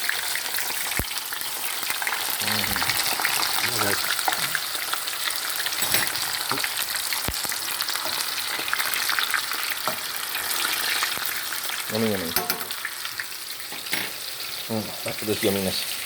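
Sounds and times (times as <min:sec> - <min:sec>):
food frying in grease: 0:00.0 - 0:16.0.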